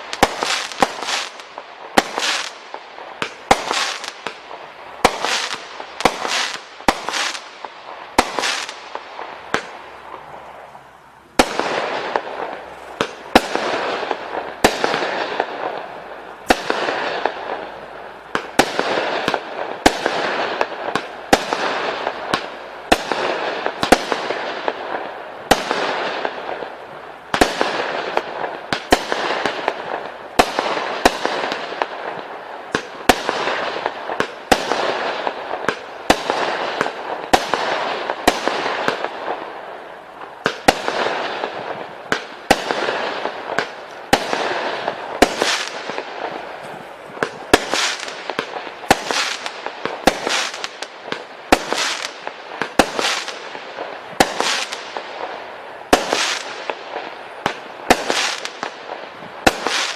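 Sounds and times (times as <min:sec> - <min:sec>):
firework bangs: 0:00.0 - 0:10.4, 0:11.4 - 0:59.9
firework hiss and crackle: 0:00.0 - 0:59.9.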